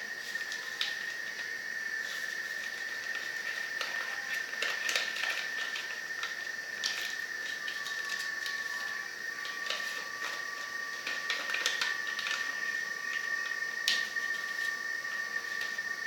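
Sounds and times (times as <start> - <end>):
high-pitched whine: 0.0 - 16.0
paper rustling and crackling: 0.2 - 15.8.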